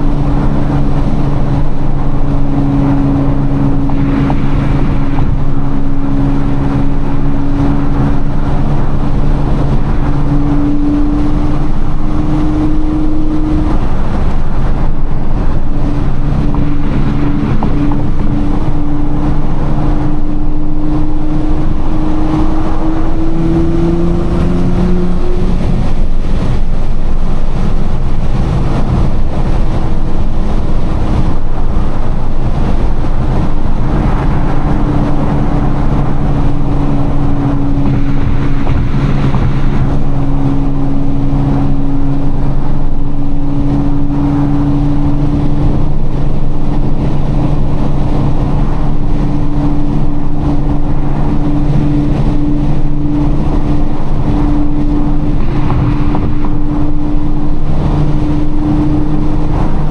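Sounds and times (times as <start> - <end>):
car engine droning: 0.0 - 59.9
road noise rumble: 0.0 - 59.9.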